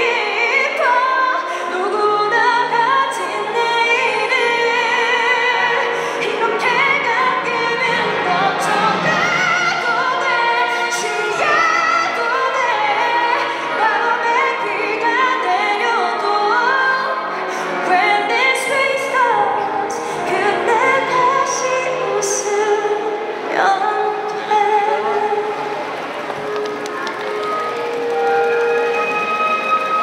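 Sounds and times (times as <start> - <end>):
woman singing pop ballad: 0.0 - 25.6
bowed string orchestra: 0.0 - 30.0.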